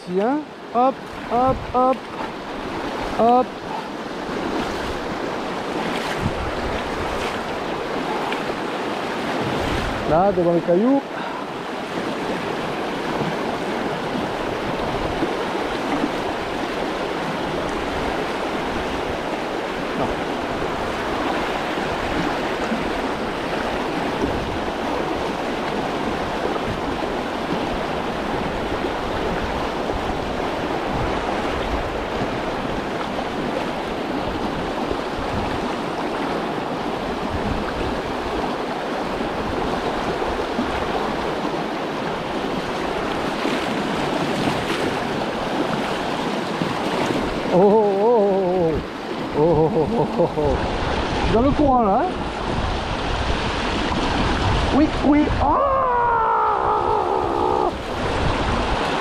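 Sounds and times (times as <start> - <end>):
river rushing over stones: 0.0 - 59.0.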